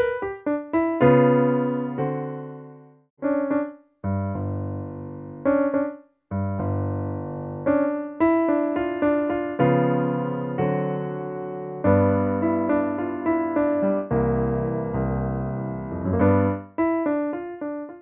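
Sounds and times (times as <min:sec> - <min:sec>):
slow solo piano piece: 0:00.0 - 0:18.0.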